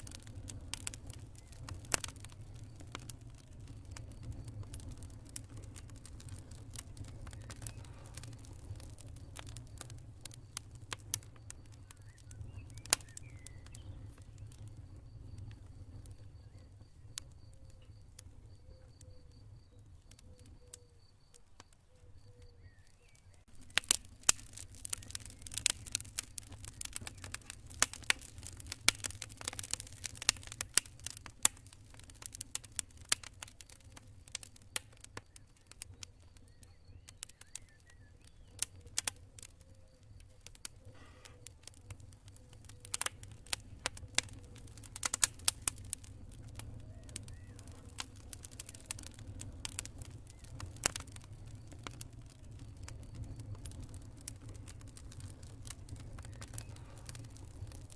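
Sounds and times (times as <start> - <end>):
campfire crackling and popping: 0.0 - 57.9
faint high cricket chirping: 0.0 - 57.9.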